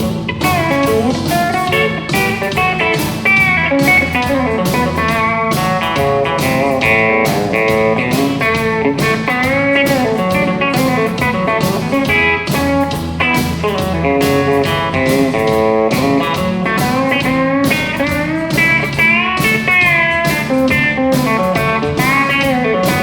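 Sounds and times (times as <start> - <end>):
pedal steel guitar playing: 0.0 - 23.0.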